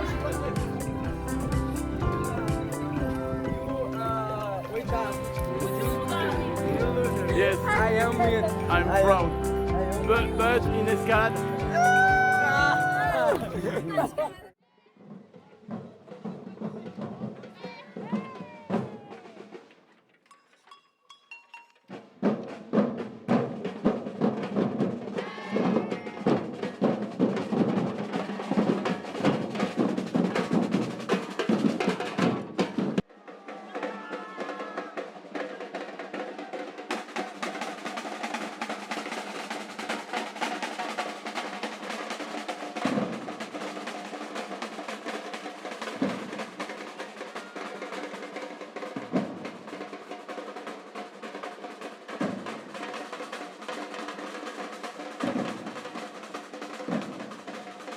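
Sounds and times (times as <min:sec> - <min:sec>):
snare drum rolls: 0:00.0 - 0:03.2, 0:04.7 - 0:13.8, 0:21.9 - 0:57.9
samba percussion ensemble: 0:00.0 - 0:14.4, 0:15.0 - 0:57.9.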